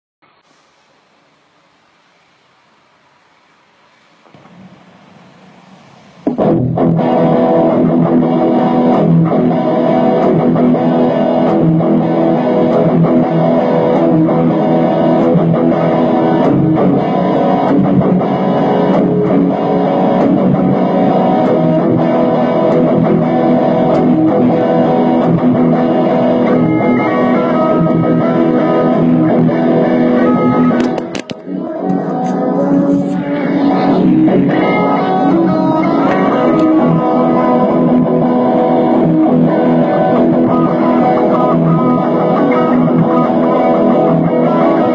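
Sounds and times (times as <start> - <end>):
acoustic guitar picking: 6.2 - 44.9.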